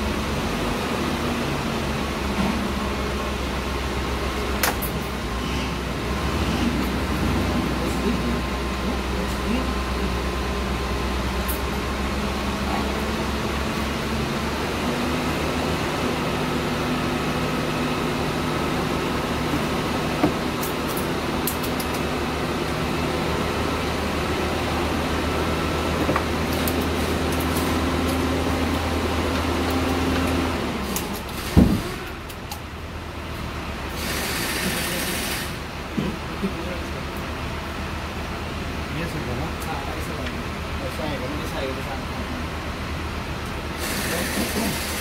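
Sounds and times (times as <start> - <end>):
machinery humming: 0.0 - 45.0.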